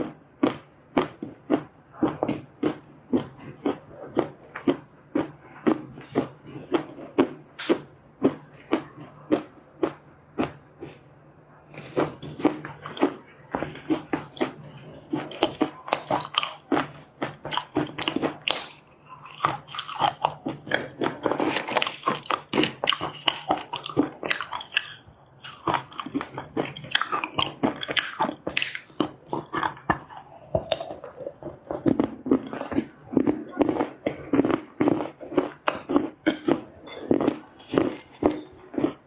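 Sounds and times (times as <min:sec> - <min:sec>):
person chewing crunchy clay: 0:00.0 - 0:11.0, 0:11.7 - 0:39.0.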